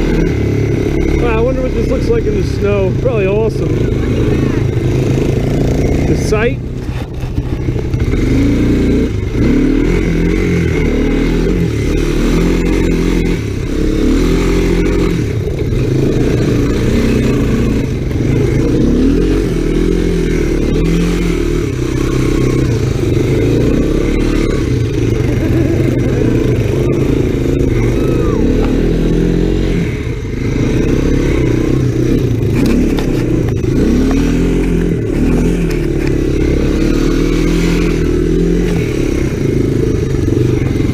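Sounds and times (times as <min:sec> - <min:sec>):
three-wheeler engine revving: 0:00.0 - 0:40.9.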